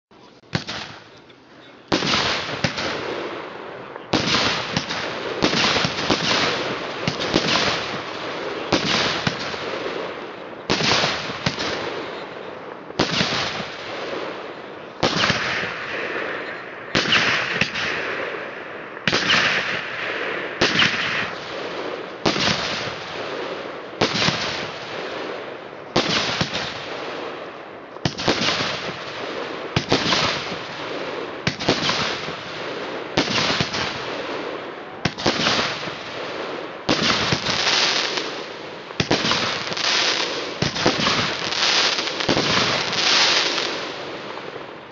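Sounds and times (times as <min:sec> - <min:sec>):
dense crackling bursts: 0:00.4 - 0:44.9.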